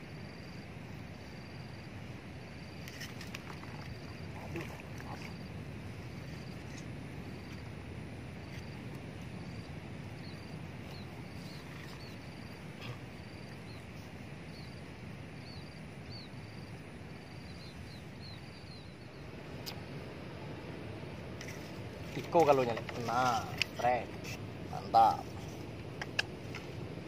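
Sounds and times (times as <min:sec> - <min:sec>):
steady low background noise: 0:00.0 - 0:27.0.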